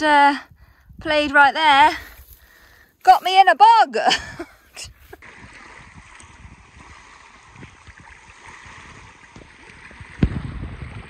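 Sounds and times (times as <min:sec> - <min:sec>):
wind buffeting microphone: 0:00.0 - 0:02.8, 0:04.1 - 0:11.0.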